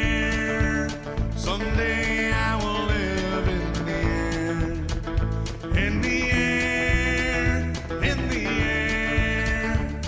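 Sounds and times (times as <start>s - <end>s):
country song with guitar: 0.0s - 10.0s
person singing: 0.0s - 10.0s.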